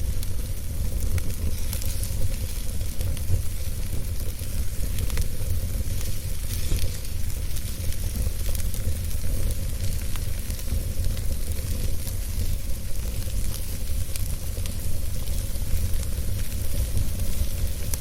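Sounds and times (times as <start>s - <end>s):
low fire rumble: 0.0s - 18.0s
wood fire crackling: 0.0s - 18.0s.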